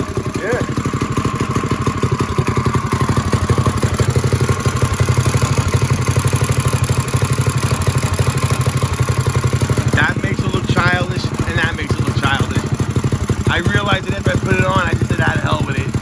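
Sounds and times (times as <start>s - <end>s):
minibike engine idling: 0.0s - 16.0s.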